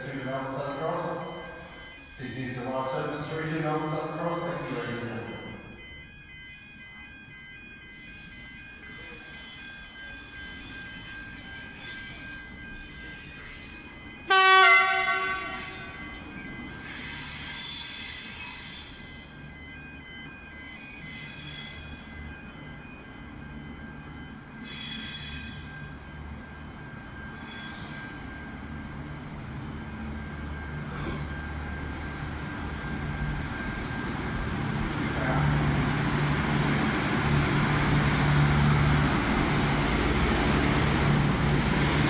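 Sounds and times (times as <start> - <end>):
diesel train engine drone: 0.0 - 42.0.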